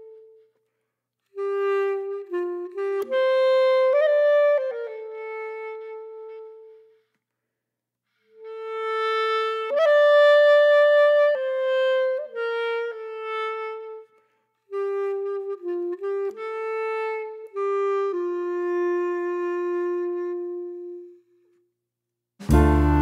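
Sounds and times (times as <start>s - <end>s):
slow wind instrument melody: 0.0s - 7.1s, 8.2s - 21.7s, 22.4s - 23.0s.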